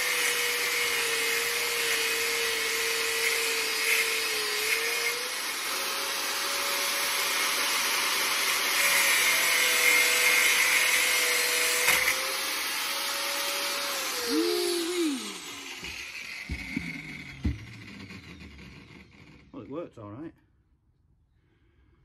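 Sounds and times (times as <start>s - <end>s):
angle grinder cutting metal: 0.0s - 19.6s
grinder disc winding down: 0.0s - 19.6s.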